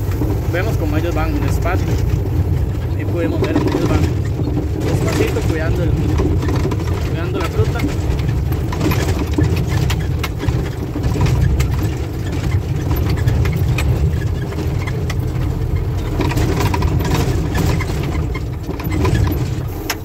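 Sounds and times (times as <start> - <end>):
cab rattling and knocking: 0.0 - 20.0
truck diesel engine running: 0.0 - 20.0.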